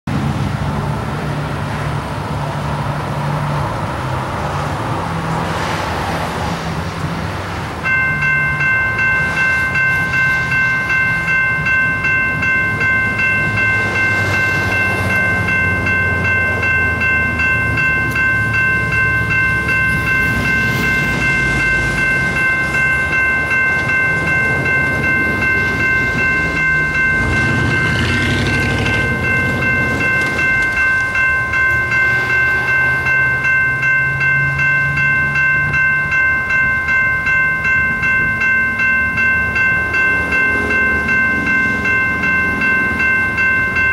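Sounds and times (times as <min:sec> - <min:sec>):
road vehicles rumbling: 0:00.0 - 0:43.9
electronic crossing bell ringing: 0:07.8 - 0:43.9.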